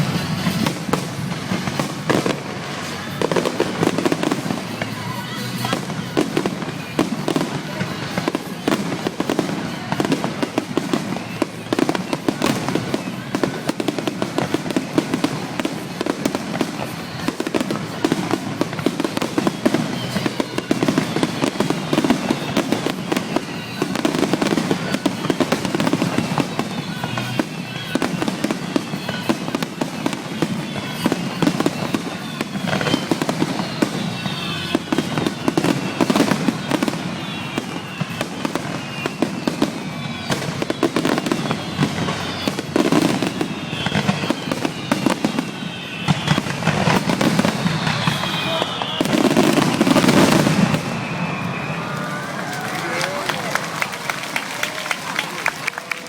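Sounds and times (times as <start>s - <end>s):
firework bursts and crackling: 0.0s - 56.0s
firework whistles: 0.0s - 56.0s.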